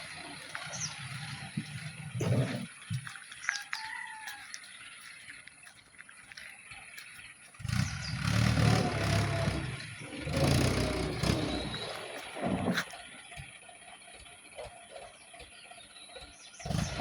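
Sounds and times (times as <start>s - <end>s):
tractor engine rumbling: 0.0s - 17.0s.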